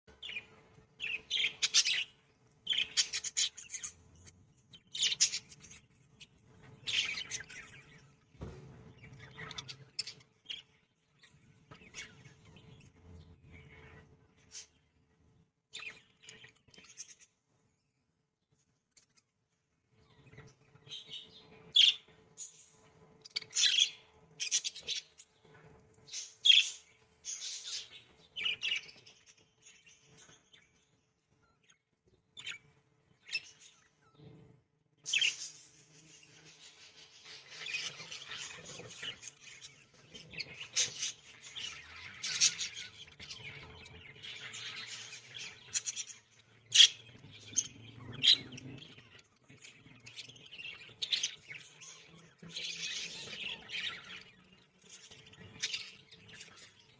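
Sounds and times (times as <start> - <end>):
budgerigars chirping and warbling: 0.1 - 15.0, 15.7 - 17.5, 19.9 - 56.9.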